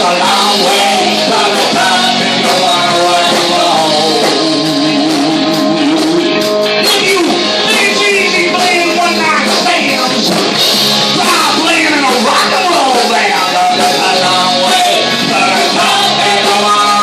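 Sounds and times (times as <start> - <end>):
person singing: 0.0 - 10.5, 11.2 - 17.0
live rock band playing: 0.0 - 17.0
loud electric guitars: 0.0 - 17.0.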